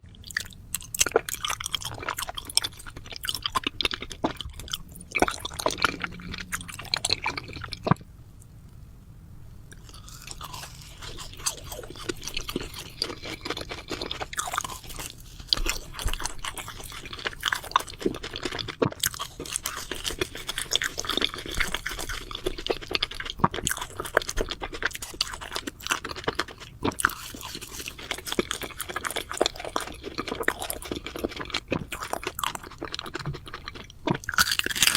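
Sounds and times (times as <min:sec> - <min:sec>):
crunching and chewing crisp food: 0:00.0 - 0:08.5, 0:09.7 - 0:34.9.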